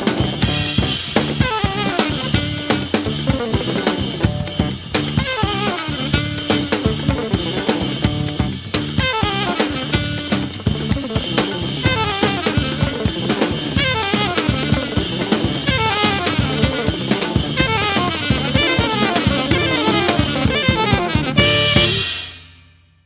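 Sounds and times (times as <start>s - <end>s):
live band music: 0.0s - 22.5s
busy drum kit: 0.0s - 22.7s.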